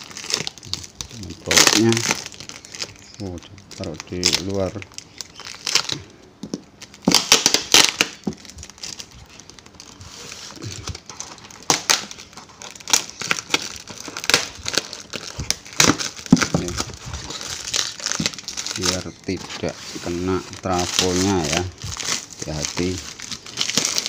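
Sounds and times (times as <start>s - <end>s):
paper and plastic wrap tearing: 0.0s - 6.1s, 6.8s - 24.0s.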